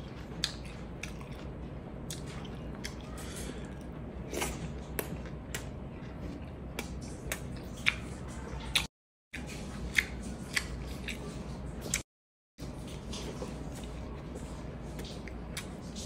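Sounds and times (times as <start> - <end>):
wet chewing and smacking: 0.0 - 12.1, 12.7 - 16.0.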